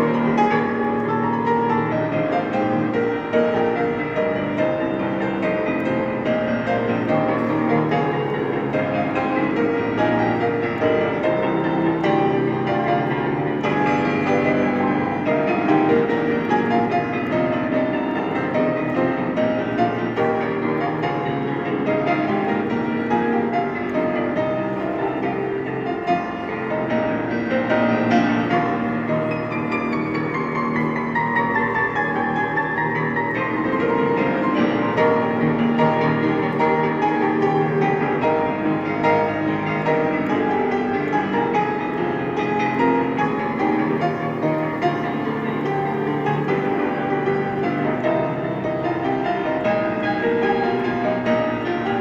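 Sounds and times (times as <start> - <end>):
solo piano playing: 0.0 - 52.0.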